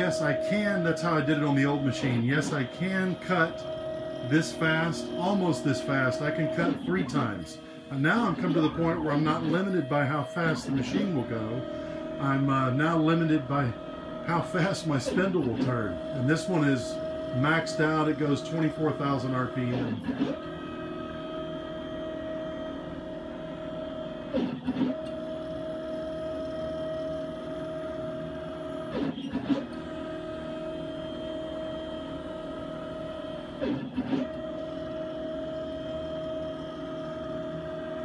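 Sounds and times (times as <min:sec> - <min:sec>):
machine drive whine: 0:00.0 - 0:38.0
router spindle running: 0:00.0 - 0:38.0.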